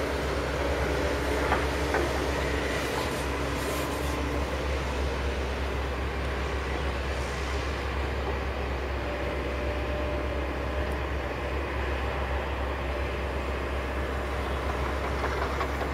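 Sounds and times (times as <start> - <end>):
diesel truck engine rumbling: 0.0 - 15.9.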